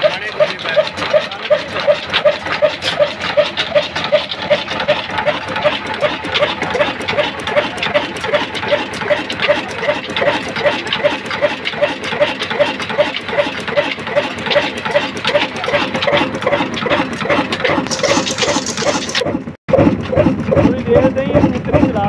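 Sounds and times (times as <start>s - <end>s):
diesel engine clattering: 0.0s - 22.0s.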